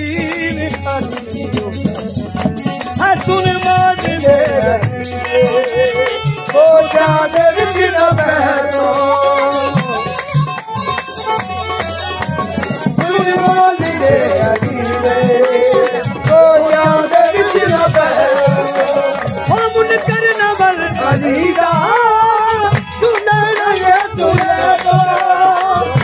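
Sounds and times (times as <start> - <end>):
ankle bells jingling: 0.0 - 25.8
hand drum: 0.0 - 26.0
men singing: 0.0 - 26.0.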